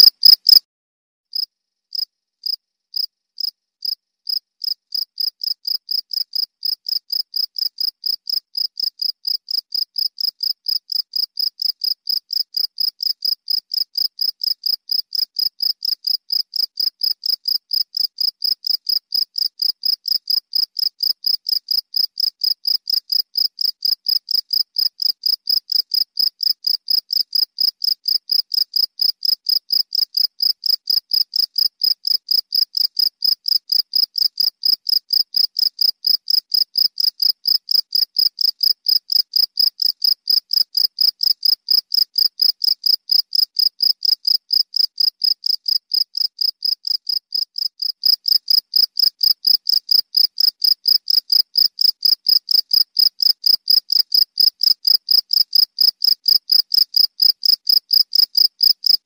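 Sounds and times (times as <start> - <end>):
cricket chirping: 0.0 - 0.6, 1.4 - 59.0.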